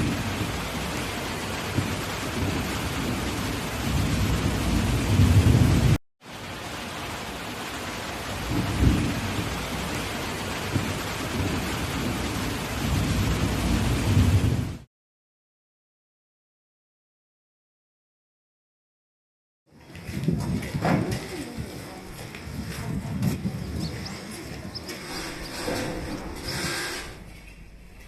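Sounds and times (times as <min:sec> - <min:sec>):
heavy rain pouring: 0:00.0 - 0:14.9, 0:19.8 - 0:28.0.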